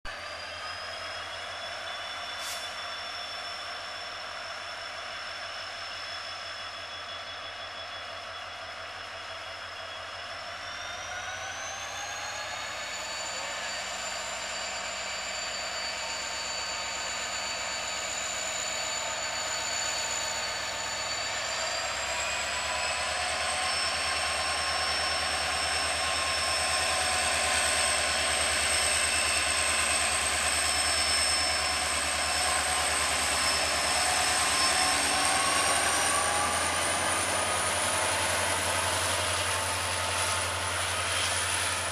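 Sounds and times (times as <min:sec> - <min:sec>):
diesel locomotive engine working hard: 0:00.0 - 0:41.9
high turbocharger whine: 0:00.0 - 0:41.9.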